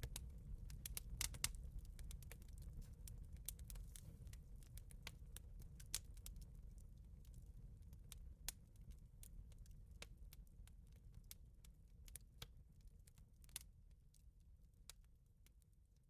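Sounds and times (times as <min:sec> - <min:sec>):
wood fire crackling: 0:00.0 - 0:14.3.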